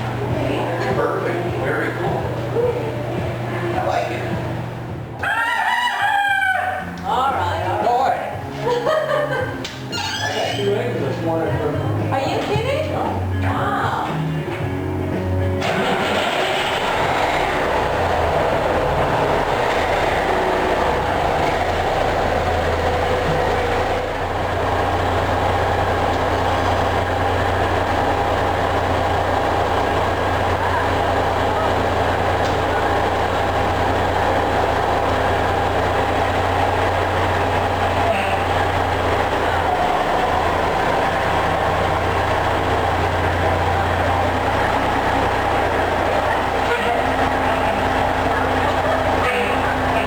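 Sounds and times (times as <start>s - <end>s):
background music: 0.0s - 50.0s
diesel truck engine running: 0.0s - 50.0s.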